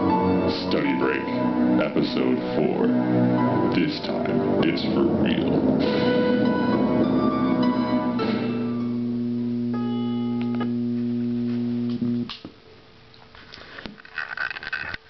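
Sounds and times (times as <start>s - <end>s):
guitar music through small speaker: 0.0s - 12.2s.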